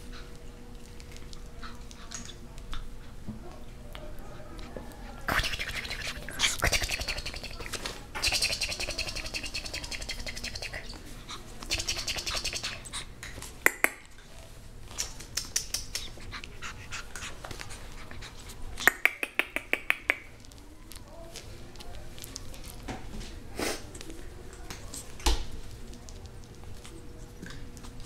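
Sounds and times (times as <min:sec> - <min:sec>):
puppy nibbling and licking: 0:00.1 - 0:14.2, 0:14.8 - 0:22.9, 0:23.8 - 0:28.0.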